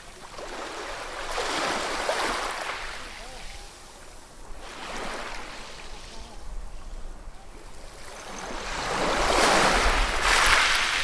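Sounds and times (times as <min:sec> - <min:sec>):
ocean waves breaking on shore: 0:00.0 - 0:11.0.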